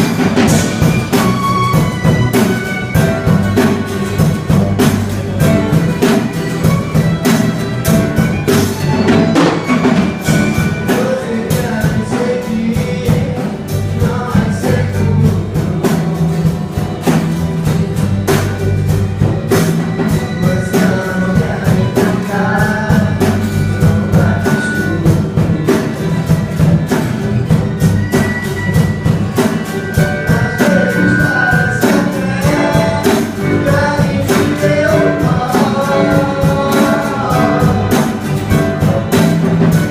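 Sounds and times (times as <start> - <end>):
music with steady drum beat: 0.0 - 39.9.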